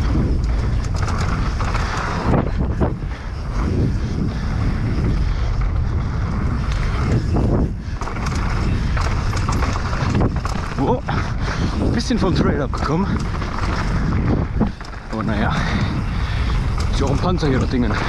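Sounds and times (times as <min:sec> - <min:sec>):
bike clattering over bumps: 0:00.0 - 0:18.0
tyres rolling over dirt: 0:00.0 - 0:18.0
wind buffeting microphone: 0:00.0 - 0:18.0.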